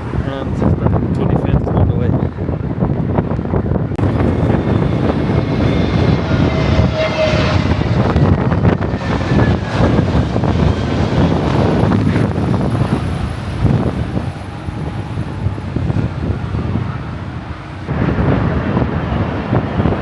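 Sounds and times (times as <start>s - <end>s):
jet engines rumbling: 0.0s - 20.0s
wind buffeting microphone: 0.0s - 20.0s.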